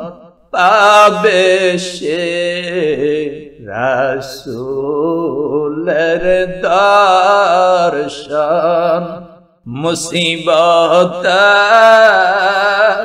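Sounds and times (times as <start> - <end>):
devotional chanting: 0.0 - 13.0.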